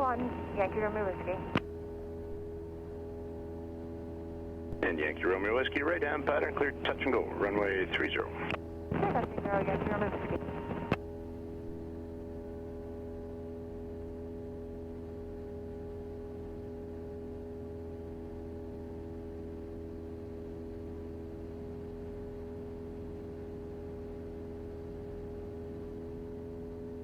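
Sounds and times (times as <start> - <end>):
airplane engine droning in cabin: 0.0 - 27.0.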